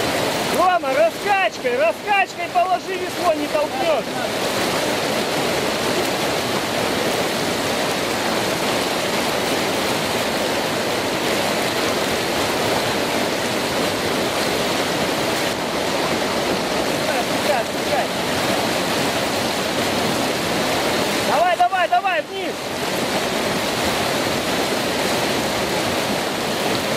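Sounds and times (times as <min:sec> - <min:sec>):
water rushing over rocks: 0:00.0 - 0:26.9.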